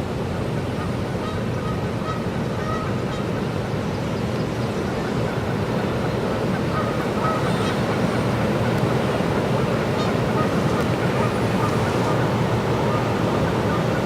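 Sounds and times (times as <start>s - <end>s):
rushing water: 0.0s - 14.0s
wind: 0.0s - 14.0s
geese honking: 0.7s - 3.8s, 4.8s - 14.0s.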